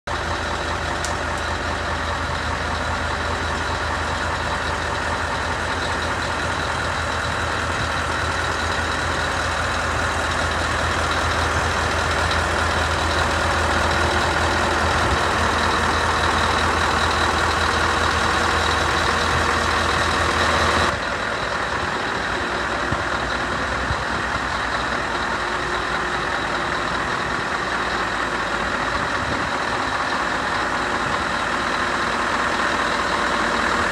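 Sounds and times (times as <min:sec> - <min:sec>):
truck diesel engine idling: 0:00.1 - 0:33.9.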